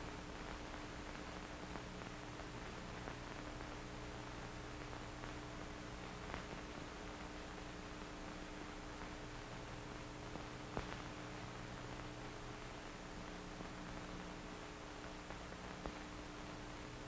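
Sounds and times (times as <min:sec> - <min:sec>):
film soundtrack hiss and hum: 0:00.0 - 0:17.0.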